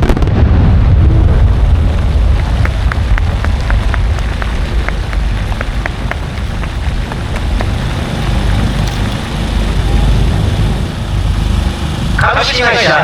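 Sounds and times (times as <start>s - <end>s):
fireworks crackling: 0.0s - 13.0s
low rumble: 0.0s - 13.0s.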